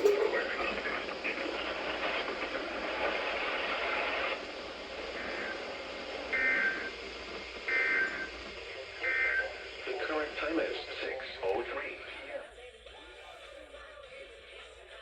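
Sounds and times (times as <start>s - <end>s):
radio hiss: 0.3s - 12.4s.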